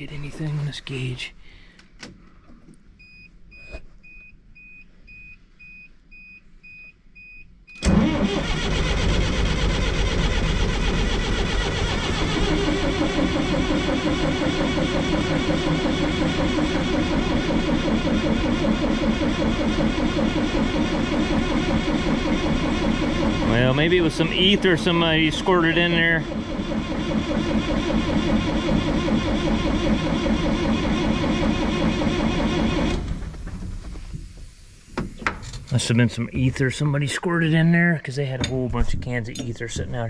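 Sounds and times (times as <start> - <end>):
diesel engine starting and running: 7.7 - 40.0.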